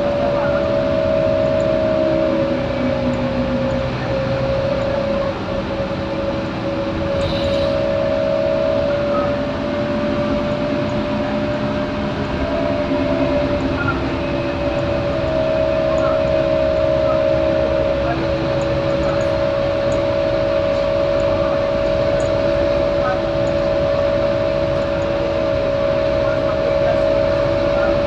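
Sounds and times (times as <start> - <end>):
bus engine whine and rumble: 0.0 - 28.0.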